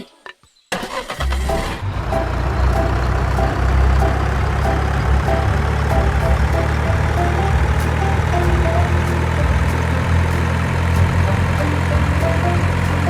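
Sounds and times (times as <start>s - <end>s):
tractor engine running: 0.9s - 13.0s
short higher tones: 1.5s - 13.0s.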